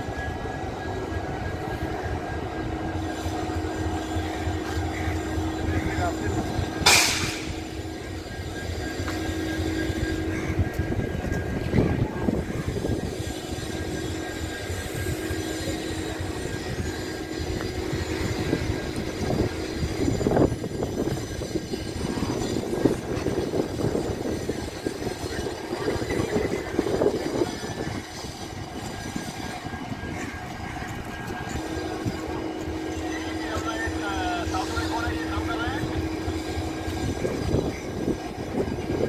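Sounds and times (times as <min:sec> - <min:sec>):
constant hum: 0:00.0 - 0:39.0
trains rumbling at platform: 0:00.0 - 0:39.0.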